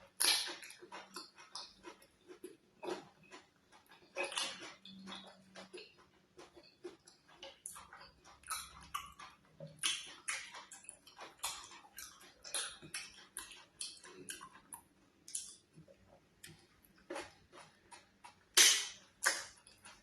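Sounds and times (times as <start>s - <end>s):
wet chewing and lip-smacking: 0.0s - 20.0s.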